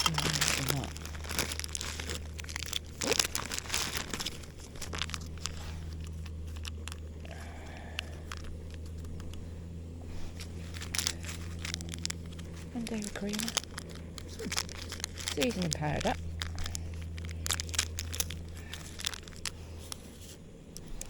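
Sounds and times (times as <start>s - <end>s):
low hum: 0.0s - 21.0s
plastic packaging crinkling: 0.0s - 21.0s.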